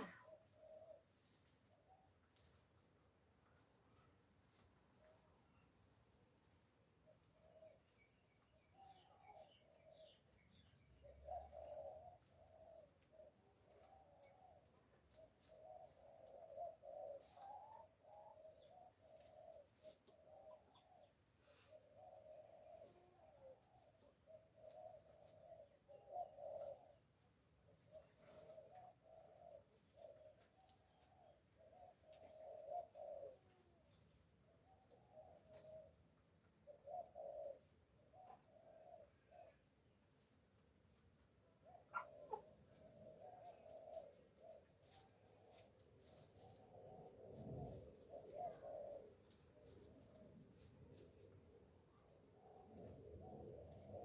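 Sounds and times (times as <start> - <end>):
hens clucking softly: 0.0 - 54.0.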